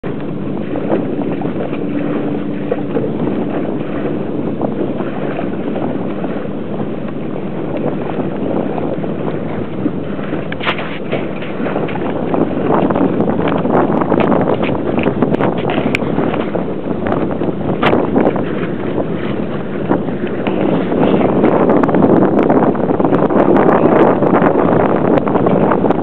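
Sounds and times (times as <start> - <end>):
water washing along boat: 0.0 - 26.0
wind buffeting microphone: 0.0 - 26.0.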